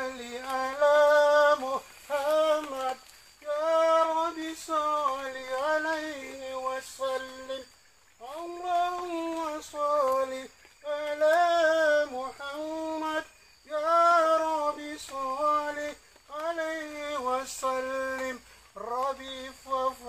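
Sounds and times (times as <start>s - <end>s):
person singing devotional song: 0.0s - 20.0s.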